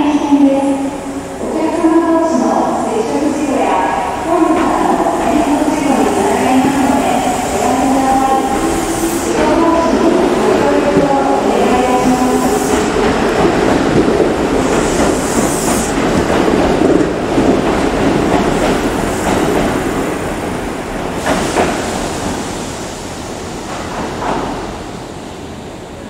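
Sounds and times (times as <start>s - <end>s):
train wheels rolling: 2.7s - 25.0s.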